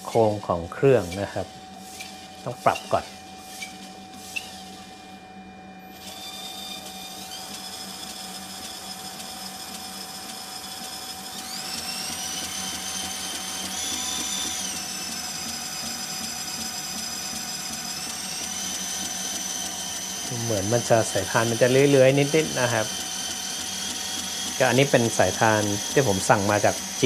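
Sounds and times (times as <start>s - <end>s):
belt grinder motor whine: 0.0s - 27.0s.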